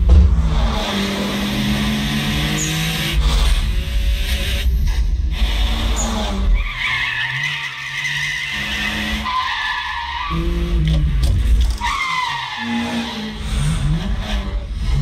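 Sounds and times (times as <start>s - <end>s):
car engines running: 0.0s - 15.0s.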